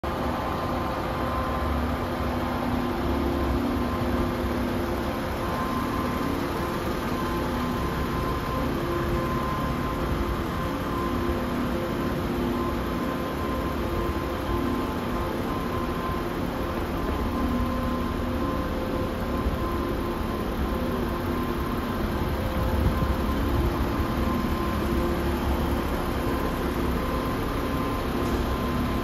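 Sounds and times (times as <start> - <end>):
truck diesel engine idling: 0.1 - 29.0.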